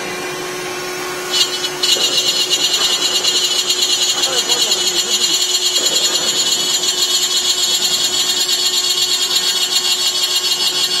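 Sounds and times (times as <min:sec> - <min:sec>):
milling machine spindle whine: 0:00.0 - 0:11.0.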